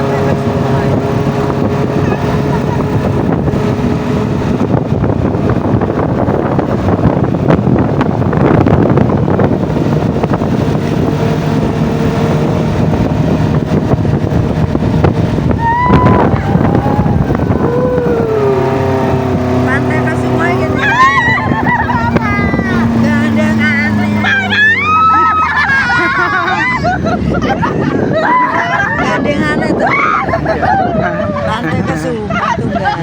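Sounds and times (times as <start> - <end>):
vehicle engine running: 0.0 - 27.8
wind buffeting microphone: 0.0 - 33.0.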